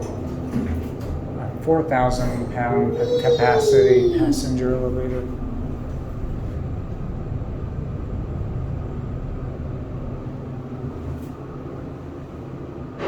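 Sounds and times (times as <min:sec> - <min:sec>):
elevator hum and rumble: 0:00.0 - 0:13.0.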